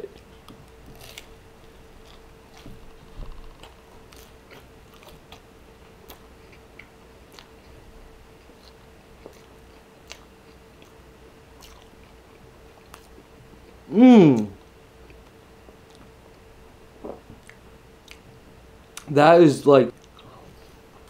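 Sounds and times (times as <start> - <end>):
faint steady hum: 0.0 - 21.0
person chewing pastry: 0.1 - 16.4, 17.0 - 18.3.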